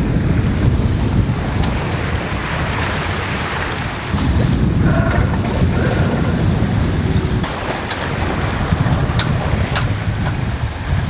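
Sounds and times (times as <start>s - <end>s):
low rumble: 0.0s - 11.0s
sea rushing: 0.0s - 11.0s
wind buffeting microphone: 0.0s - 11.0s.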